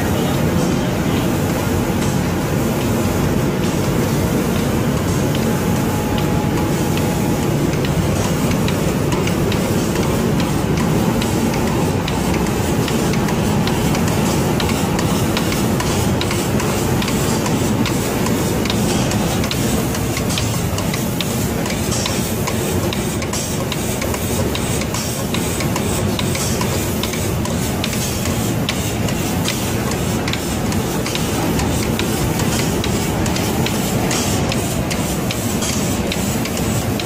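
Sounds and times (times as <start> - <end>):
spray-painting machine hiss and rumble: 0.0 - 37.0
sharp mechanical ticks: 4.4 - 37.0.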